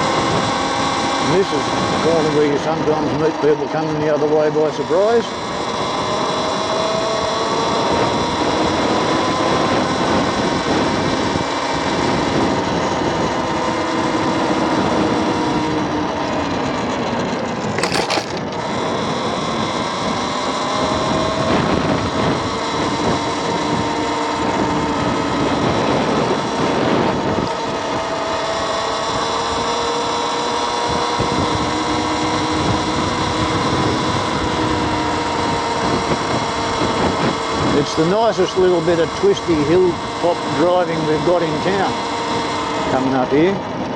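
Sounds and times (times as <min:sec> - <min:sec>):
wind noise on microphone: 0:00.0 - 0:03.3, 0:05.1 - 0:16.8, 0:17.6 - 0:29.9, 0:30.6 - 0:43.9
electric scooter motor whining: 0:00.0 - 0:43.9.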